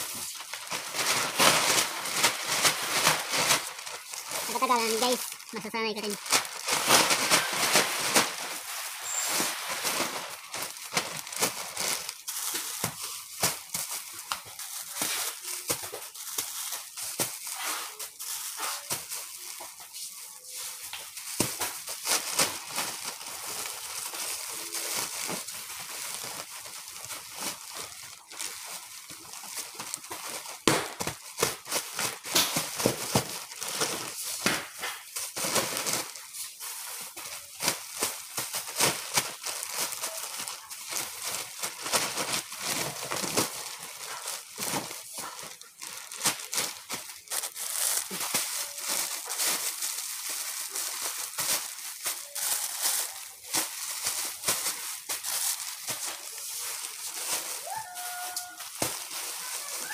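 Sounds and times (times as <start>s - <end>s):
plastic bag crinkling: 0.0s - 59.9s.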